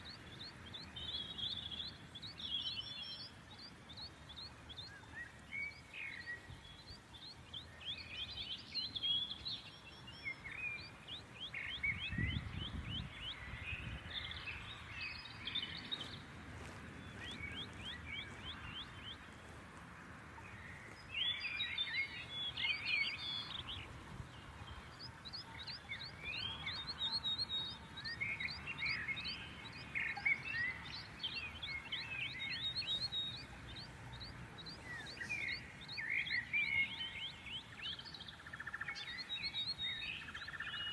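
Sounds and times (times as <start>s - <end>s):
low steady background noise: 0.0s - 40.9s
small birds chirping: 0.0s - 40.9s.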